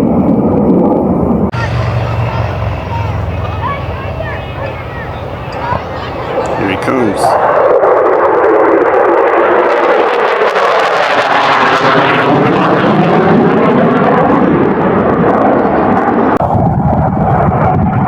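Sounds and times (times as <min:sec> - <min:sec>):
jet engine flying past: 0:00.0 - 0:18.0.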